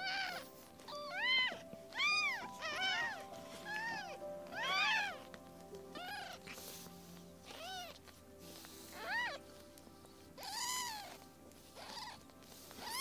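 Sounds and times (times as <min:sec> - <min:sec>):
kittens mewing: 0:00.0 - 0:05.3, 0:05.9 - 0:09.5, 0:10.3 - 0:13.0
background music with held tones: 0:00.0 - 0:13.0.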